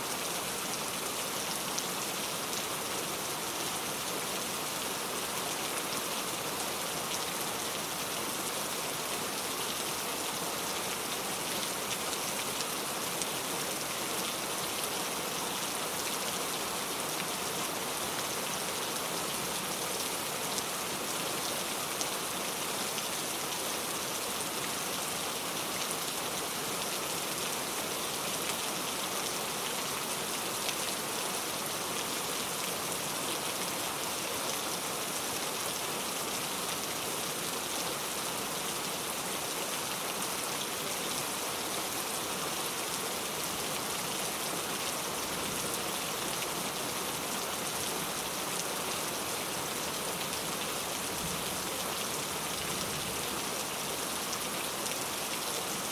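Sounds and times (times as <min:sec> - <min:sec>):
heavy rain falling: 0:00.1 - 0:55.9.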